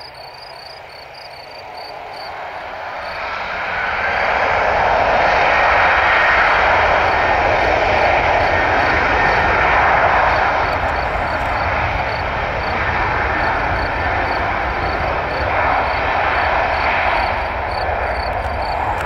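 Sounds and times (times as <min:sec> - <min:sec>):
jet engines at takeoff power: 0:00.0 - 0:19.0.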